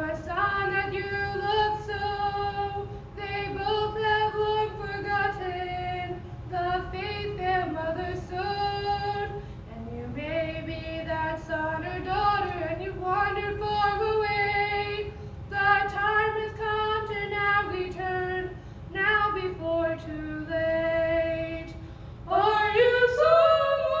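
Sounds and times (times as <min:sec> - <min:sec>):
two women singing gospel: 0:00.0 - 0:24.0.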